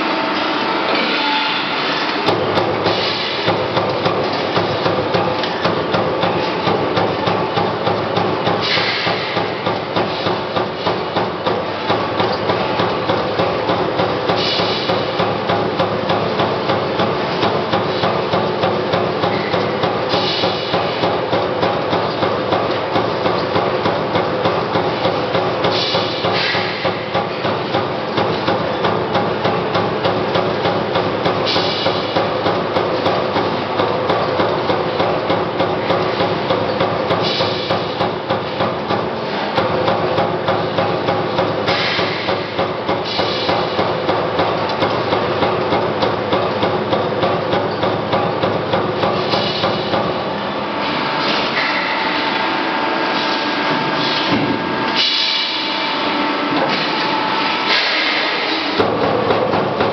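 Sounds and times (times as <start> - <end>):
punch press hammering sheet steel: 0.0 - 59.9.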